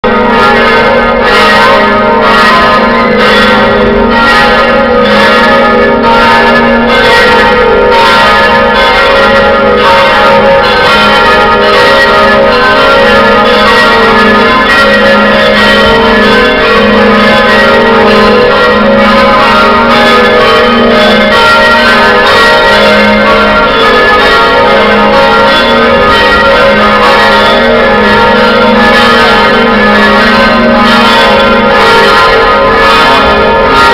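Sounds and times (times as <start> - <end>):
church bells ringing a peal: 0.0 - 33.9.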